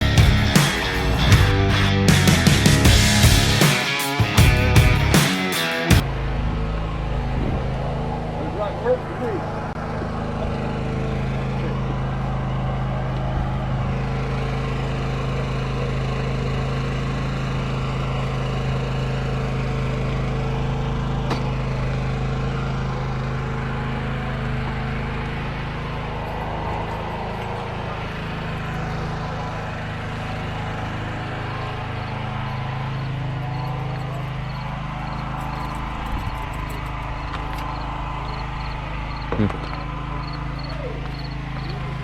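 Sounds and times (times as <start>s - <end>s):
road noise: 0.0s - 42.0s
vehicle engine running: 0.0s - 42.0s.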